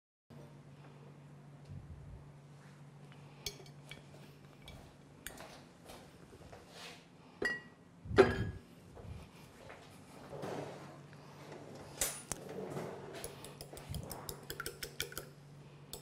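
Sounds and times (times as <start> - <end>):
low steady hum: 0.3 - 16.0.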